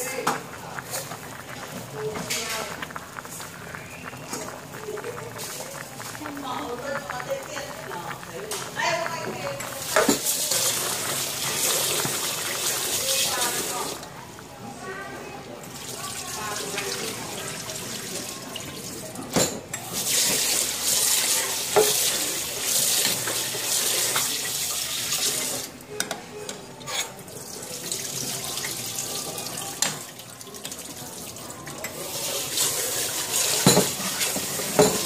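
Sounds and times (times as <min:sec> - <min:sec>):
soup boiling and bubbling: 0:00.0 - 0:35.0.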